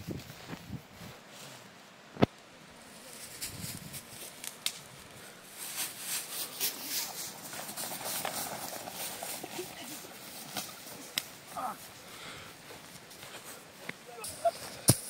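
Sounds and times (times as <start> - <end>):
footsteps crunching through dry grass: 0.0 - 2.2, 2.8 - 15.0.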